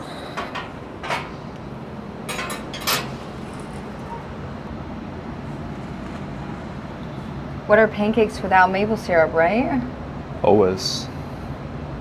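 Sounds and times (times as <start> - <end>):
city traffic hum: 0.0 - 12.0.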